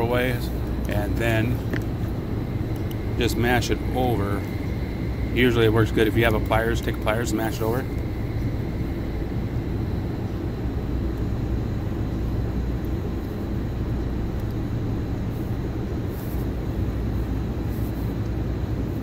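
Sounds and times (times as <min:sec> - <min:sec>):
low rumble: 0:00.0 - 0:17.5
faint high whine: 0:00.0 - 0:19.0.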